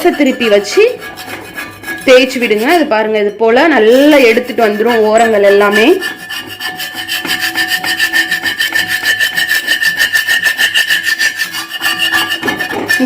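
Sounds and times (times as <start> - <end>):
metal turner scraping griddle: 0.0 - 3.2, 3.8 - 13.0.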